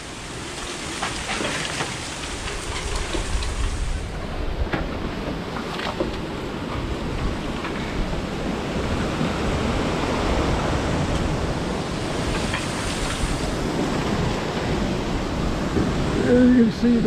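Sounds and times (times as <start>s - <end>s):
storm wind through trees: 0.0s - 17.0s
wind rumbling on microphone: 0.0s - 17.0s.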